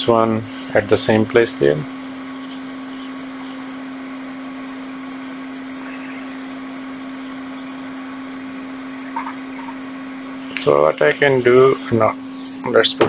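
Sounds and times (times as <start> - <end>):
electric blower humming: 0.0 - 13.0.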